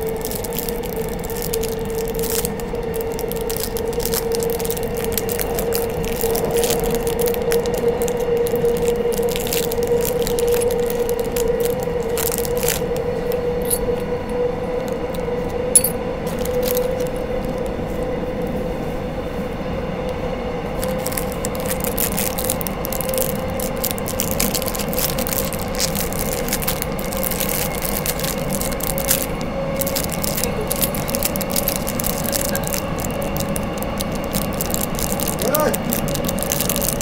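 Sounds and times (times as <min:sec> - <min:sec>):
handling clicks and crackles: 0:00.0 - 0:18.5, 0:20.8 - 0:37.0
train rumbling with hum: 0:00.0 - 0:37.0.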